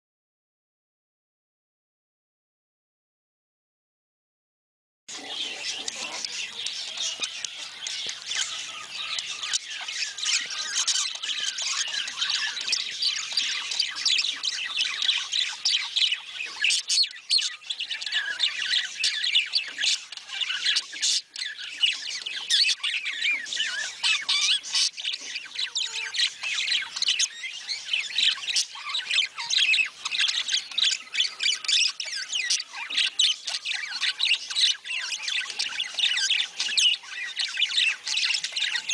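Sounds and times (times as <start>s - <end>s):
budgerigars chattering: 5.1s - 38.9s.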